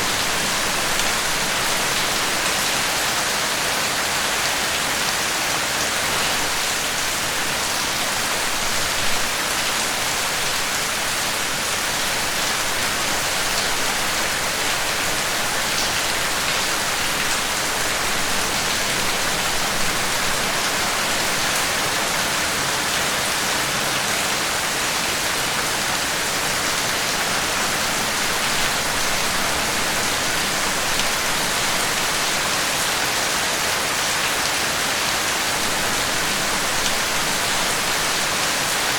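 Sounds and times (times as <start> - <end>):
rain pattering: 0.0 - 5.0, 5.8 - 33.2, 34.2 - 38.9.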